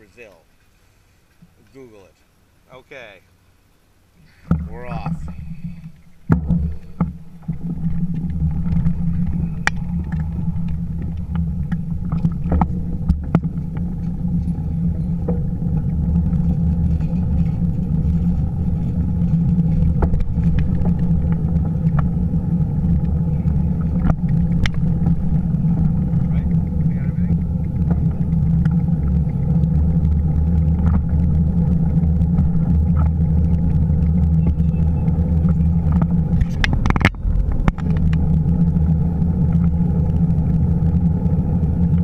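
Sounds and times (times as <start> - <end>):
wind and road rumble: 4.2 - 42.0.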